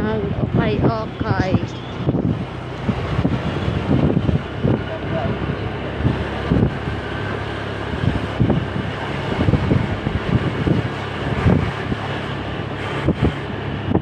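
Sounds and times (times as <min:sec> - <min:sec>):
vehicle engine hum: 0:00.0 - 0:14.0
wind buffeting microphone: 0:00.0 - 0:14.0.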